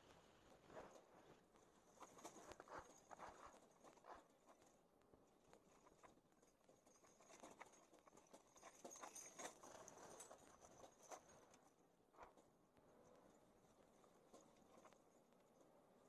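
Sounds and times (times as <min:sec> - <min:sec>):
faint clicks and knocks: 0:00.1 - 0:16.0.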